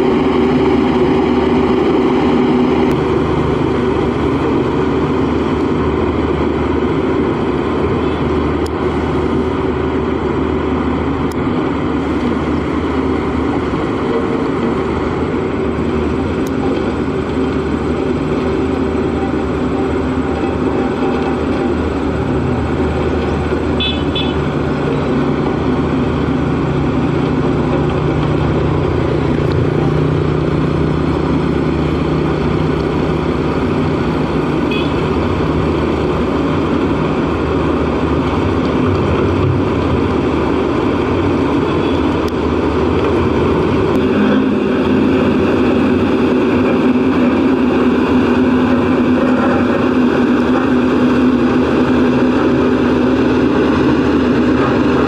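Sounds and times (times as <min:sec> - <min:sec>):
road roller diesel engine running: 0:00.0 - 0:55.0.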